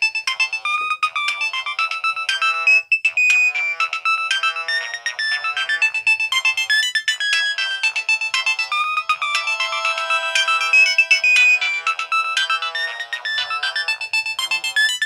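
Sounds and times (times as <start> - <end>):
mobile phone ringtone melody: 0.0 - 15.0.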